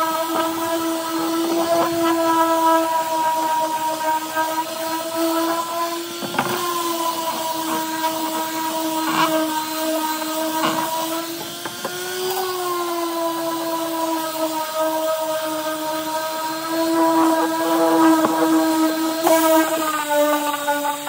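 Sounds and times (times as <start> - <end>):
orbital sander motor whine: 0.0 - 21.0.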